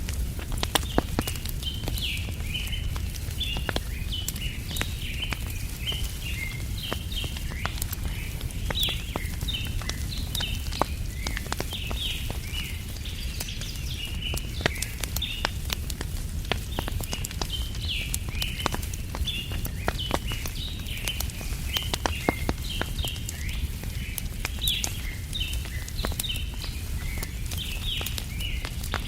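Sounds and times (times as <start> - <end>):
campfire crackling and popping: 0.0 - 29.0
small birds chirping: 0.1 - 29.0.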